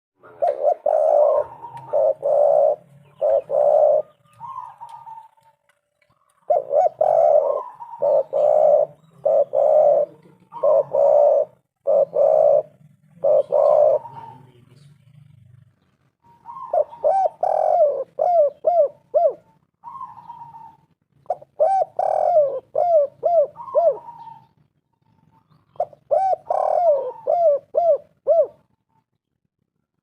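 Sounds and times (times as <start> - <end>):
dove cooing: 0.2 - 14.8, 16.2 - 28.8.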